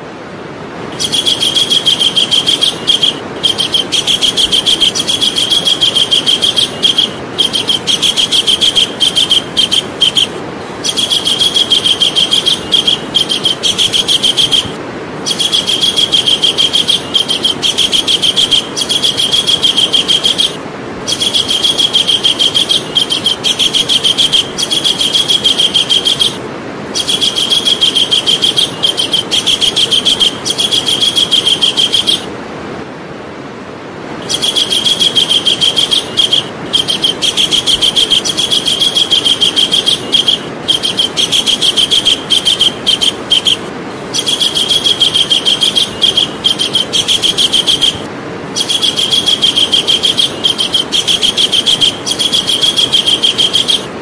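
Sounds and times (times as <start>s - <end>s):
kingfisher rattling trills: 0.9s - 32.3s, 34.2s - 54.0s.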